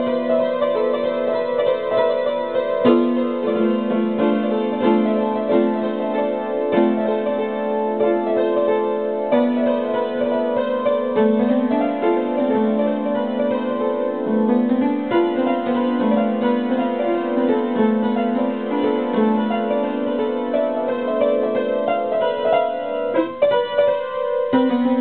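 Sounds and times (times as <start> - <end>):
solo piano playing: 0.0 - 25.0.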